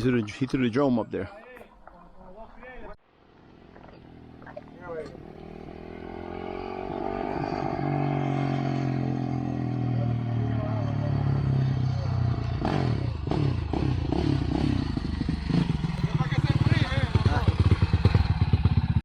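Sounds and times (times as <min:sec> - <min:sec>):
quad engine running: 0:03.4 - 0:19.0.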